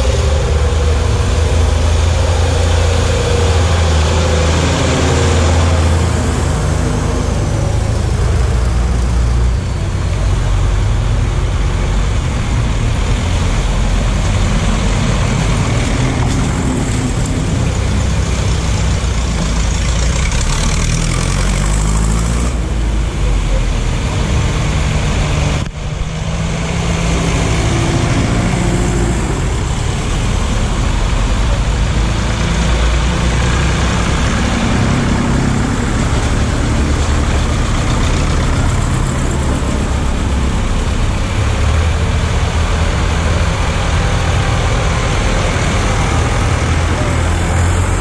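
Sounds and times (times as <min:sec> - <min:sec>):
tractor engines running: 0:00.0 - 0:48.0
water splashing and rushing: 0:00.0 - 0:48.0.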